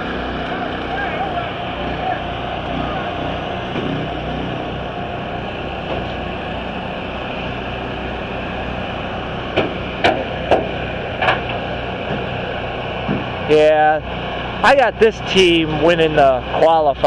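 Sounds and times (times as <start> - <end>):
engines rumbling: 0.0 - 17.0.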